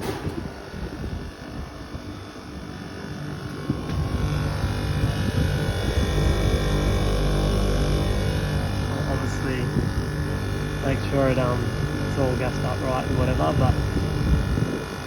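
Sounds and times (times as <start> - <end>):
air conditioner low hum: 0.0 - 15.0.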